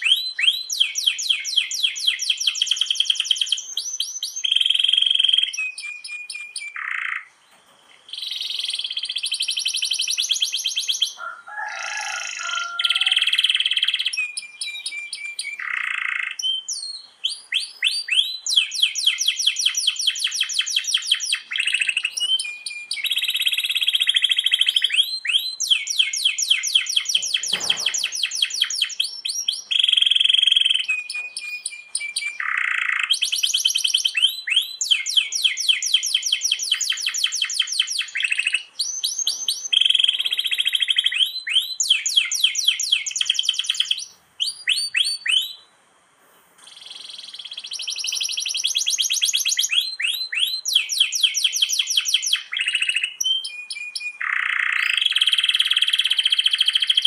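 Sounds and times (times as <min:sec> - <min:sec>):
canary singing with trills: 0:00.0 - 0:45.8, 0:46.6 - 0:57.0.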